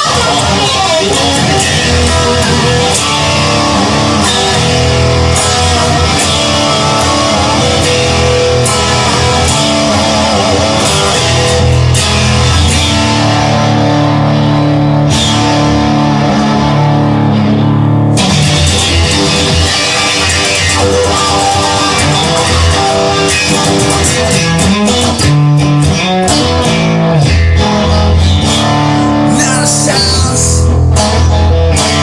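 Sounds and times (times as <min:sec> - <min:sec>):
bass: 0:00.0 - 0:32.0
drums: 0:00.0 - 0:32.0
instrumental rock music: 0:00.0 - 0:32.0
loud guitars: 0:00.0 - 0:32.0.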